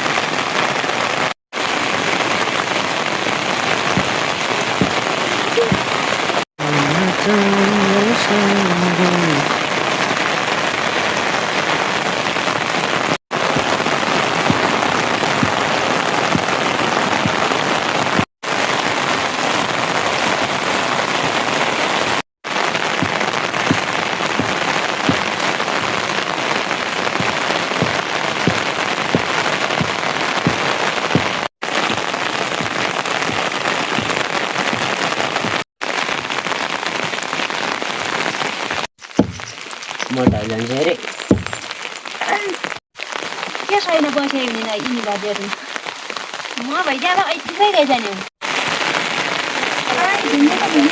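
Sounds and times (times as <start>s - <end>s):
heavy rain: 0.0s - 50.9s
raindrops landing: 0.0s - 50.9s.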